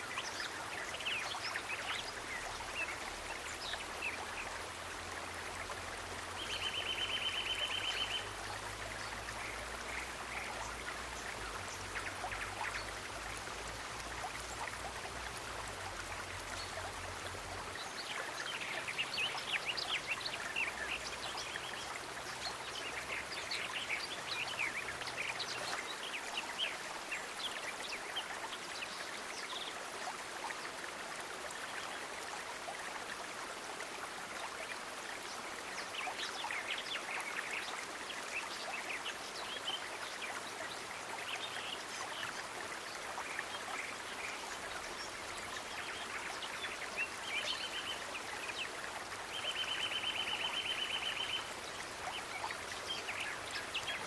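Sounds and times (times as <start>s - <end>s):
stream running water: 0.0s - 54.0s.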